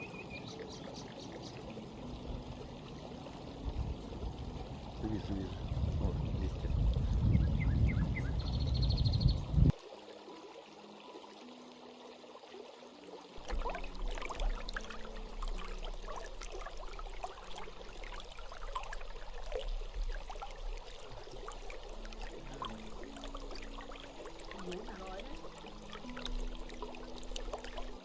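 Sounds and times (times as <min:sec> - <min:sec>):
water splashing: 0:00.0 - 0:08.5, 0:13.4 - 0:28.0
stream babbling over stones: 0:00.0 - 0:08.6, 0:09.6 - 0:28.0.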